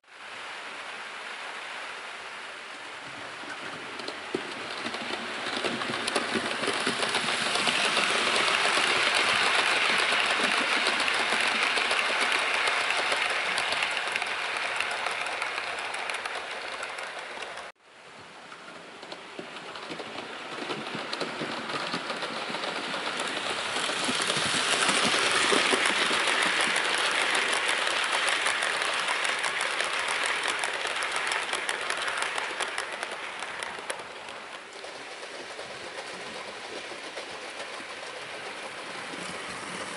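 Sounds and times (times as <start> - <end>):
model train wheels hissing on rail: 0.1 - 17.8, 18.7 - 39.9
model train motor running: 3.6 - 17.7, 19.6 - 39.9.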